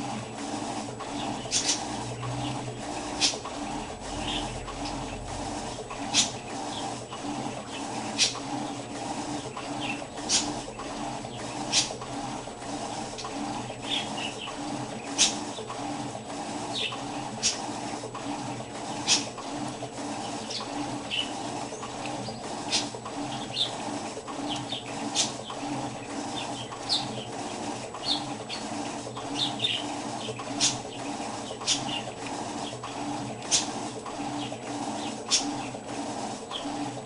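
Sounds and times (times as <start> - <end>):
washing machine humming: 0.0 - 37.0.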